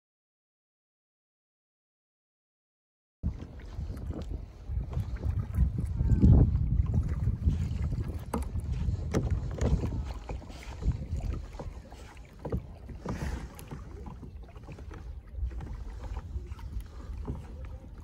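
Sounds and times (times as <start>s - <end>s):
small water splashes: 3.2s - 18.0s
water slapping against kayak hull: 3.2s - 18.0s
wind buffeting microphone: 3.2s - 18.0s.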